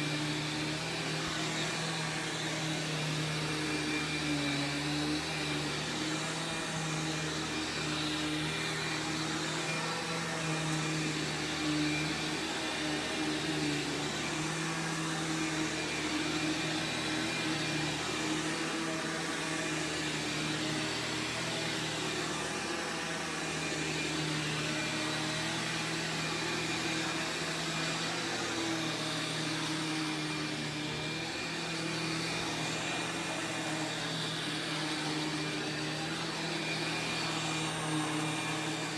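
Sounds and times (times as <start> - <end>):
upright vacuum running: 0.0 - 38.9.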